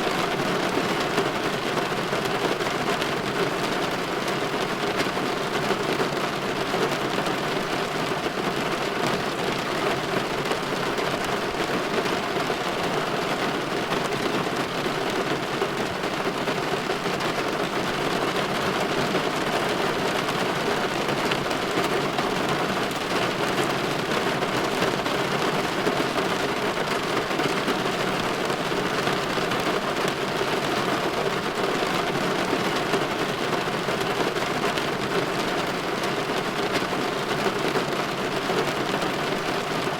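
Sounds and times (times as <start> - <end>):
rain pattering on window glass: 0.1 - 39.9.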